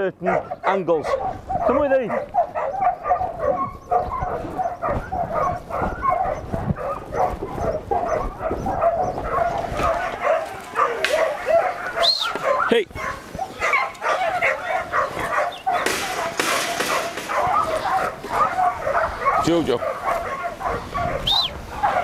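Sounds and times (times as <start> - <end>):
dog yipping and whining: 0.3 - 22.0.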